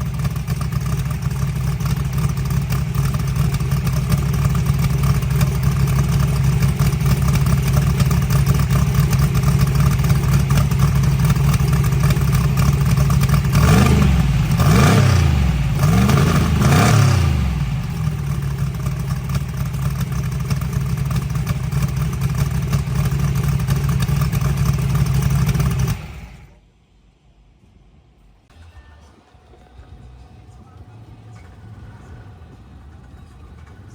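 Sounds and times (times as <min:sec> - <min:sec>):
truck engine revving: 0:00.0 - 0:26.6, 0:28.5 - 0:33.9.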